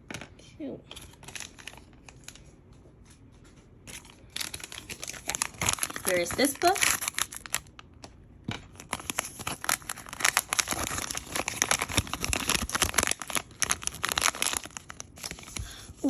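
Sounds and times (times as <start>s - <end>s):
plastic wrapper crinkling and tearing: 0.9s - 2.6s, 3.8s - 16.0s.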